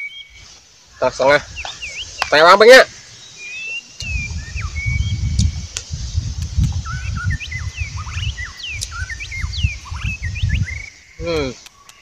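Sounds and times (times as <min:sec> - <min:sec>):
small birds chirping: 0:00.0 - 0:12.0
wind buffeting microphone: 0:00.3 - 0:11.6.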